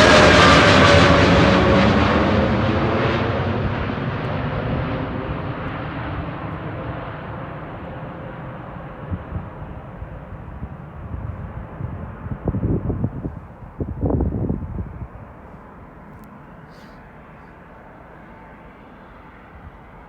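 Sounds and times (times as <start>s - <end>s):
falling engine whine: 0.0s - 20.0s
jet airliner engines rushing: 0.0s - 20.0s.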